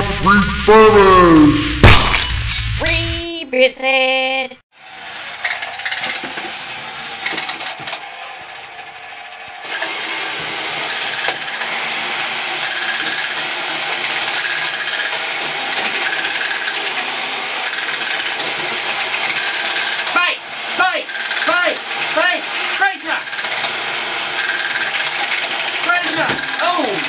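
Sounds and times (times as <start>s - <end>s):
toy robots whirring and ratcheting: 5.0s - 27.0s.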